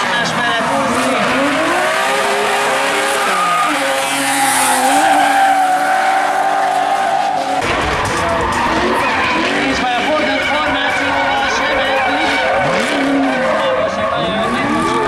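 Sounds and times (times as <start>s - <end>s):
car engines revving: 0.0s - 15.0s
tyres squealing: 2.9s - 15.0s.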